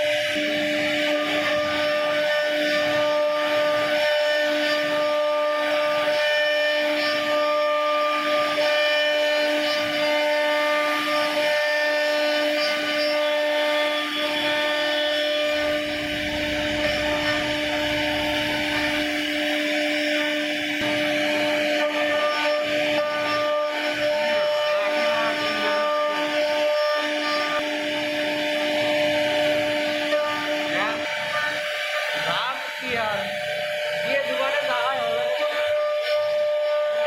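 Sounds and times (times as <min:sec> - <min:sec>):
router spindle whine: 0:00.0 - 0:37.0.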